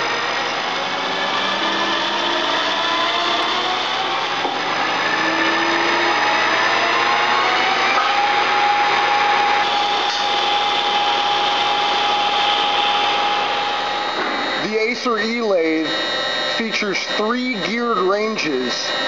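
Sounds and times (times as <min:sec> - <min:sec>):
metal lathe cutting: 0:00.0 - 0:19.0.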